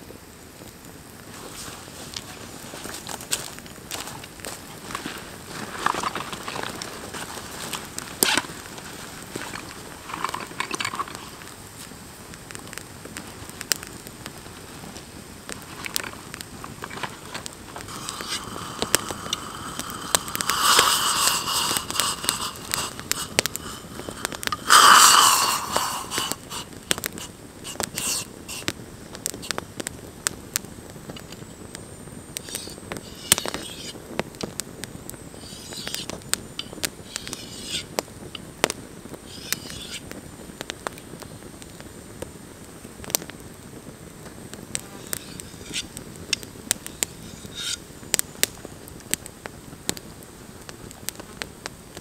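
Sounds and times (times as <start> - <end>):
campfire crackling and popping: 0.0 - 52.0
hiss with whistling tone: 0.5 - 52.0.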